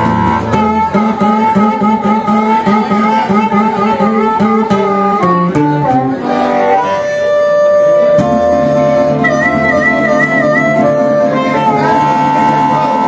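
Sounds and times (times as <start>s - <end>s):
guitar bass notes: 0.0s - 13.0s
guitar strum: 0.0s - 13.0s
harmonica long held notes: 0.0s - 13.0s.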